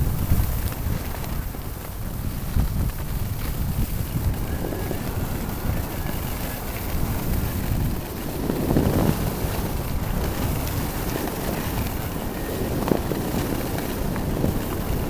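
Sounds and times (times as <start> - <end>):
wind buffeting microphone: 0.0 - 15.0
ski edges scraping on snow: 0.1 - 15.0.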